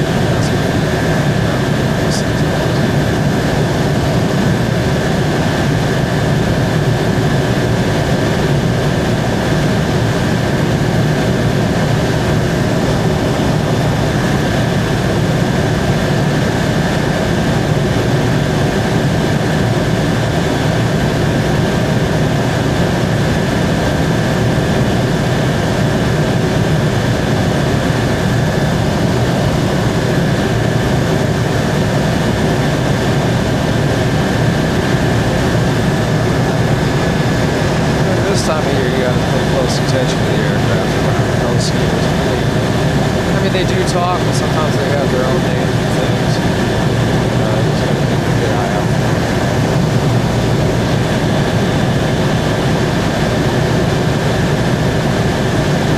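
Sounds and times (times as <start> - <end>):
helicopter high whine: 0.0 - 55.9
helicopter low rumble: 0.0 - 55.9.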